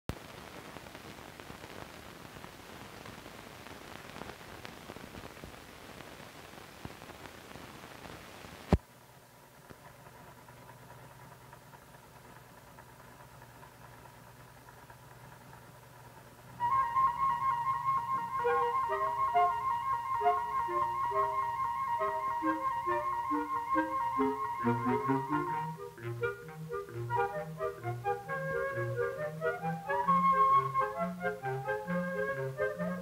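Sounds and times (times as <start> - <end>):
faint steady hum: 0.1 - 33.0
film crackling hiss: 0.1 - 33.0.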